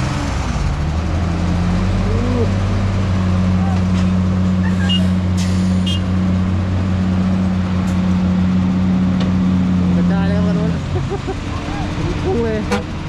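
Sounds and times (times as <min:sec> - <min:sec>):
heavy vehicle engine droning: 0:00.0 - 0:13.0.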